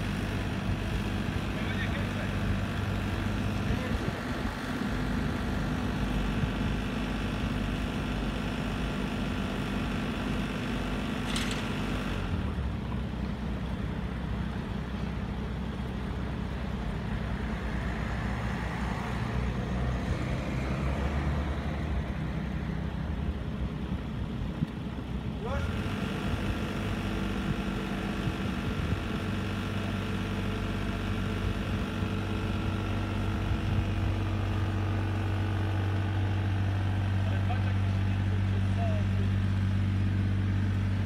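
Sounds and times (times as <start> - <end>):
construction machine engines running: 0.0 - 41.0.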